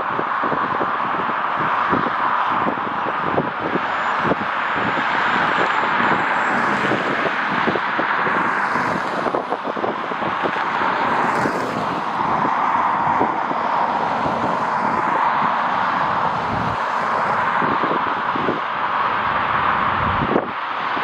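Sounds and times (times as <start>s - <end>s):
jet engines roaring: 0.0s - 21.0s
wind buffeting microphone: 0.0s - 21.0s.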